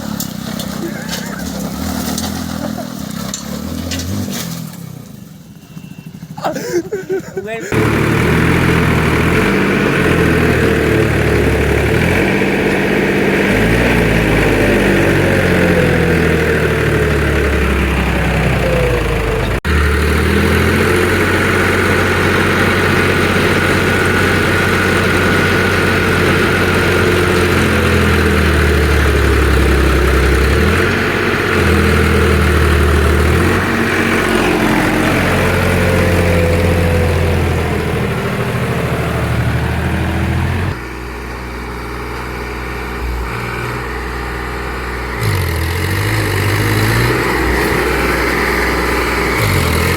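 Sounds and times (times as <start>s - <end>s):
tractor diesel engine under load: 0.0s - 49.9s.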